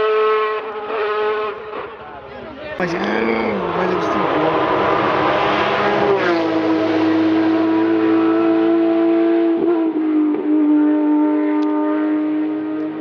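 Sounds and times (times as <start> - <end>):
race car engine at high revs: 0.0 - 2.2, 2.8 - 13.0.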